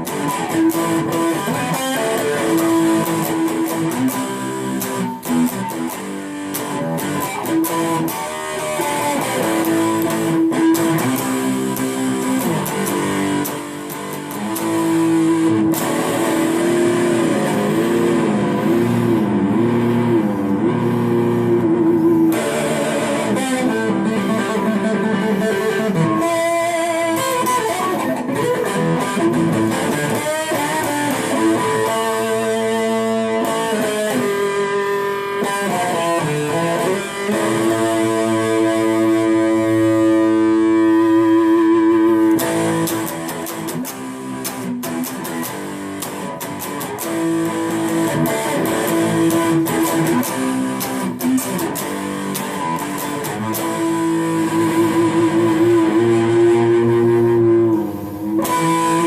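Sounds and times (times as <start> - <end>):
electric guitar with effects: 0.0 - 59.0.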